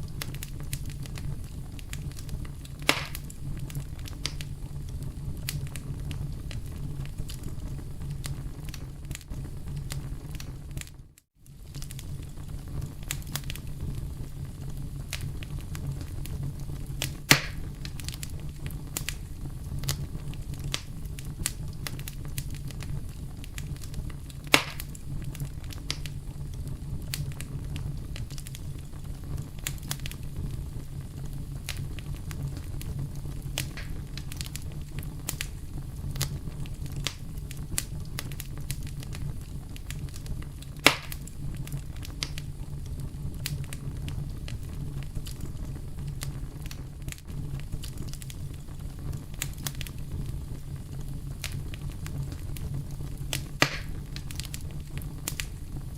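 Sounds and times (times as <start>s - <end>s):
campfire crackling: 0.0s - 55.9s
loud fire pops: 0.0s - 55.9s.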